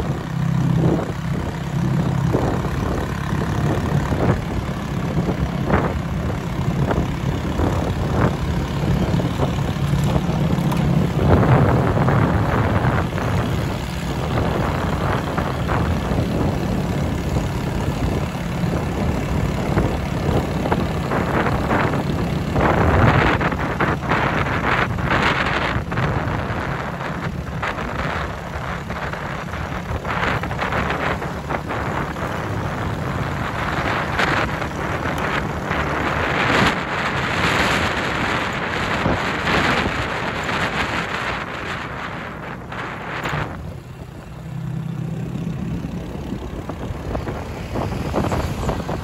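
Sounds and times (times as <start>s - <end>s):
motorcycle engine rumbling: 0.0s - 49.0s
wind noise on microphone: 0.0s - 49.0s.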